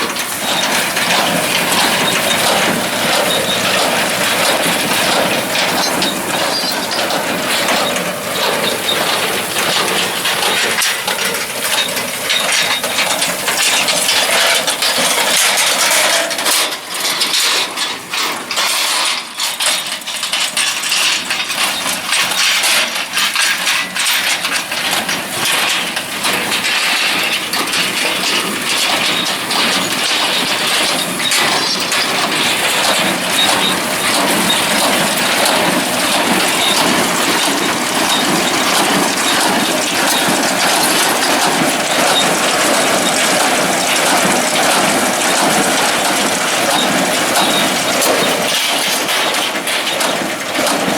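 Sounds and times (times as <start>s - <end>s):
farm machinery rattling: 0.0s - 50.9s.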